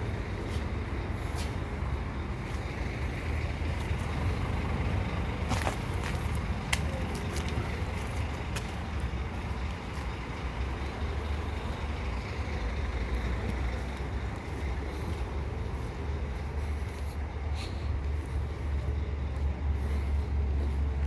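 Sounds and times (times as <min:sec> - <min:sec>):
truck engine rumbling: 0:00.0 - 0:21.0.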